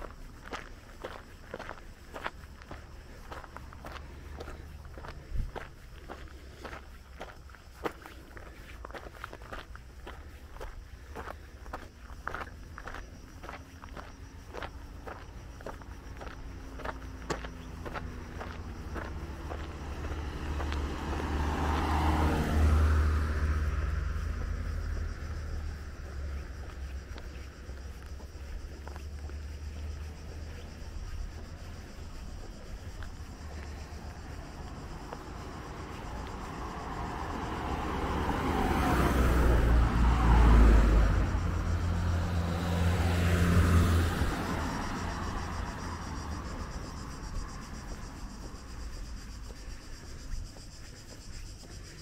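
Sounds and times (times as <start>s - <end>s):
low engine hum: 0.0s - 52.0s
car driving past: 9.0s - 51.0s.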